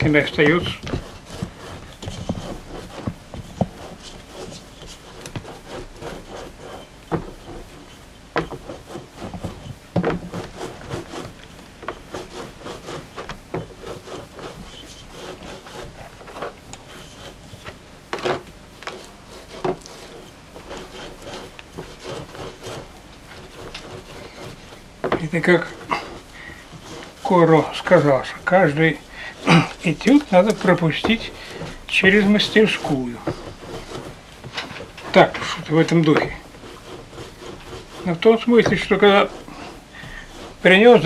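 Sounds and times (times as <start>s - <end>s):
hands rubbing on wooden table: 0.0s - 41.0s.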